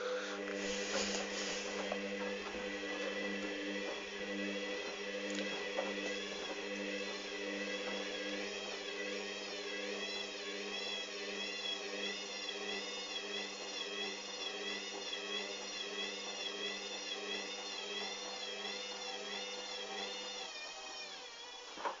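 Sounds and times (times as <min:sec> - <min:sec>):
washing machine motor whining: 0:00.0 - 0:22.0.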